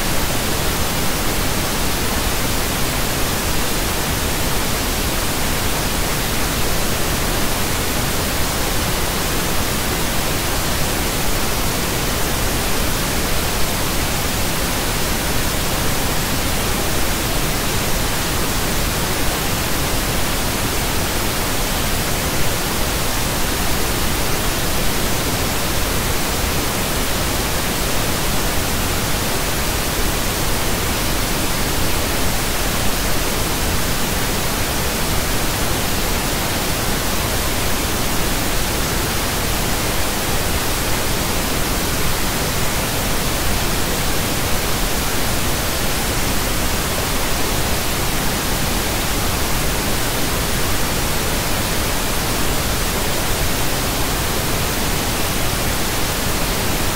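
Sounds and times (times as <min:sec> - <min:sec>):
pink noise hiss: 0:00.0 - 0:56.9.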